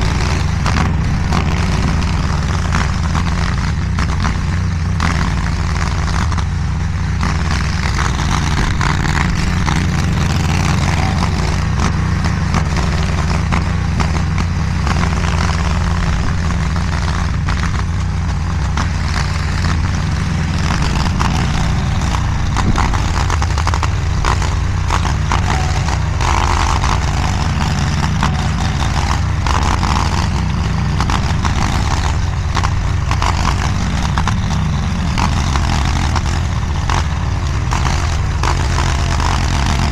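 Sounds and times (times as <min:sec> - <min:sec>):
mini skid steer engine drone: 0:00.0 - 0:39.9.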